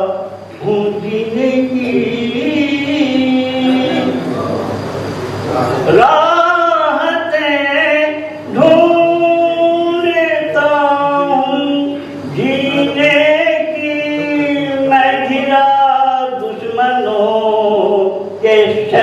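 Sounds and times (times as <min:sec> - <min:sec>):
man singing melodic chant: 0:00.0 - 0:04.6, 0:05.8 - 0:19.0.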